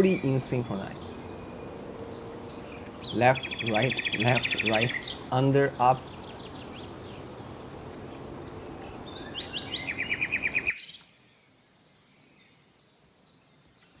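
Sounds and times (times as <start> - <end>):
faint high bird calls: 0.0 - 11.4
songbirds calling and trilling: 0.0 - 14.0
steady background hiss: 0.0 - 14.0.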